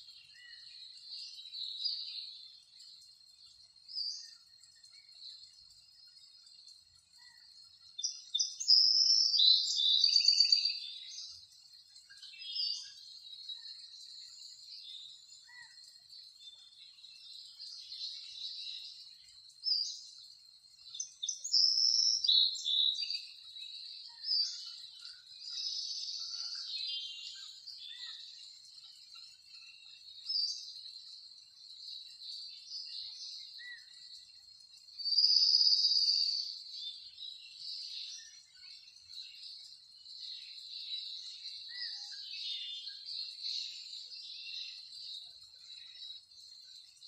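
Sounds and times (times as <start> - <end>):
birds chirping in high trills: 0.0 - 47.0.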